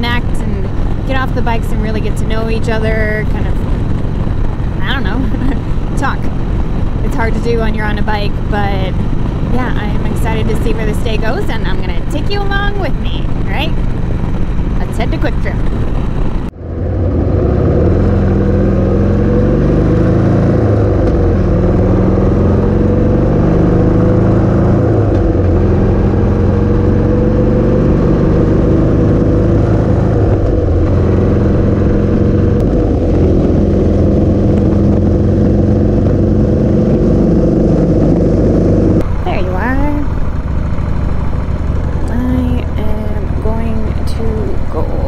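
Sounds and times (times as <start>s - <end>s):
motorcycle engine shifting gears: 0.0s - 45.0s
wind noise on microphone: 0.0s - 45.0s.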